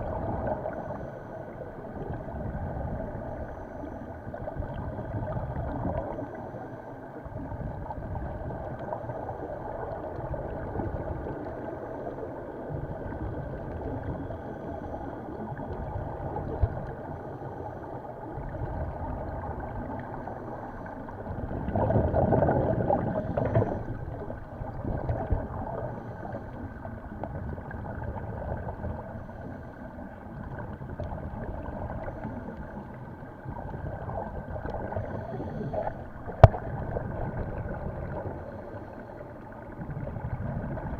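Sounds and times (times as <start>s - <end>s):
muffled underwater noise: 0.0s - 40.9s.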